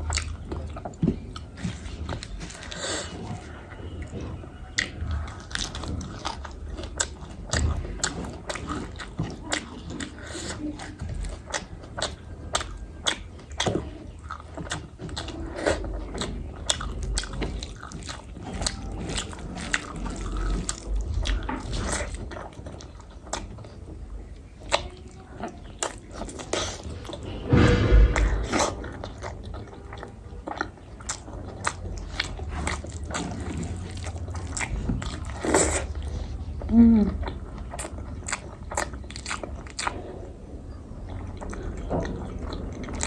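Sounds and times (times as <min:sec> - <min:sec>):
person chewing and crunching: 0:00.0 - 0:43.0.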